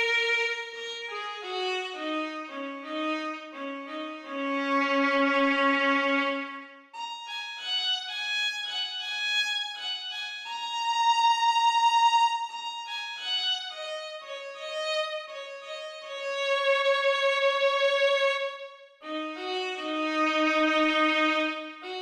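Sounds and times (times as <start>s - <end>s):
slow solo violin melody: 0.0s - 22.0s.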